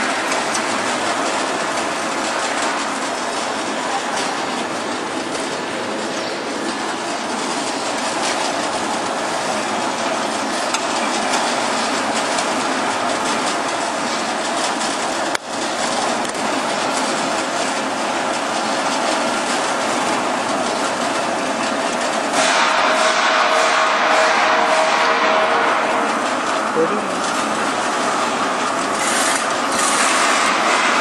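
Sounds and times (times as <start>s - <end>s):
briquette press running: 0.0s - 31.0s
briquettes clattering down steel chute: 0.0s - 31.0s.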